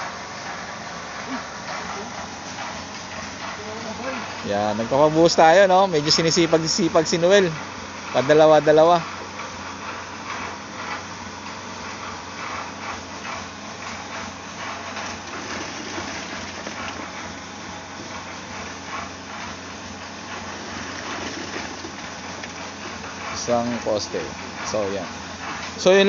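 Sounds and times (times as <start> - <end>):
steady engine hum: 0.0 - 26.0
wet concrete pouring: 0.0 - 26.0.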